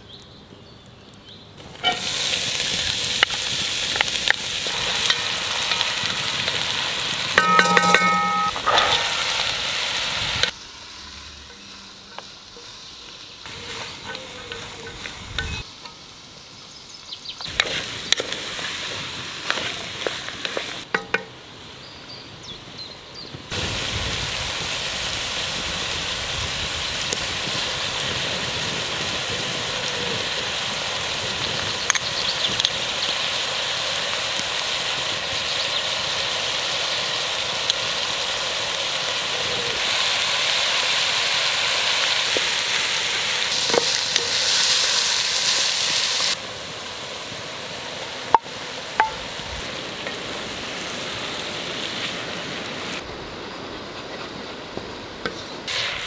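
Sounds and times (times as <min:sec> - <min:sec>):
vegetables sizzling in a frying pan: 0:01.6 - 0:22.0, 0:23.5 - 0:53.0, 0:55.7 - 0:56.0.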